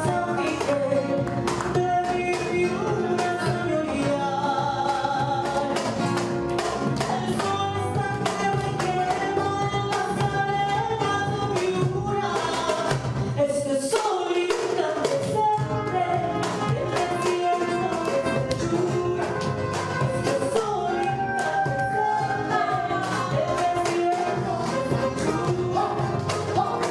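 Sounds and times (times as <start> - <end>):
guitar: 0.0 - 26.9
woman singing: 0.0 - 26.9.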